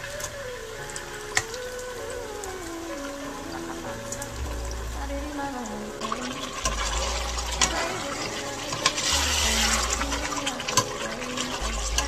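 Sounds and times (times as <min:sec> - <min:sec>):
food sizzling in pot: 0:00.0 - 0:12.0.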